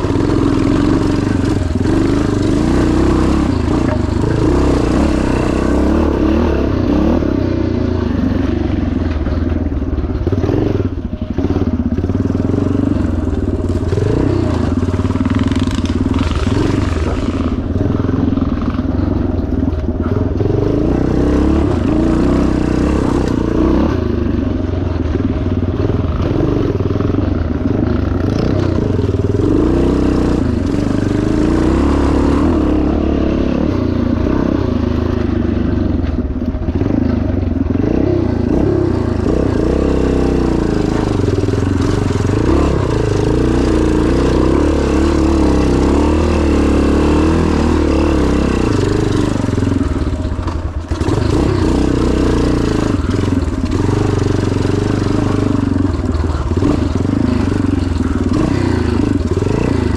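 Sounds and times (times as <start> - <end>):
motorcycle engine revving under load: 0.0 - 59.9.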